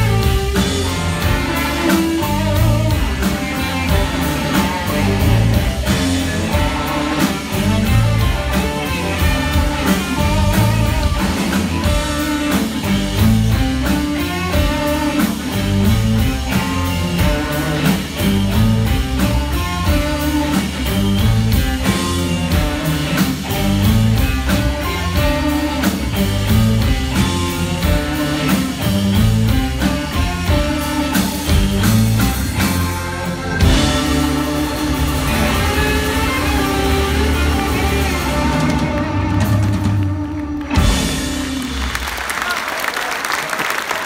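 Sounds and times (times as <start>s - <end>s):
blues-rock band playing: 0.0s - 44.0s.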